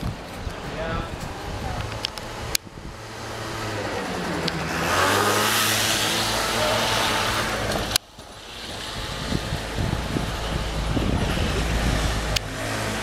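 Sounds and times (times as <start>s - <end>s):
vehicle passing: 0.6s - 13.0s.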